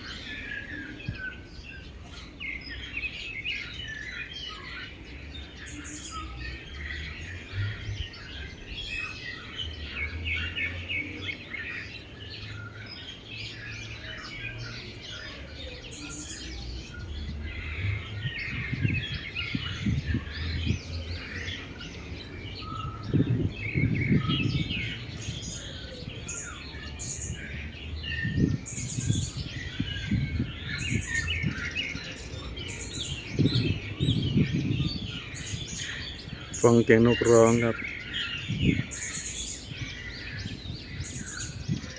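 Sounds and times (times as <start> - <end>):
small birds chirping in chorus: 0.0 - 41.9.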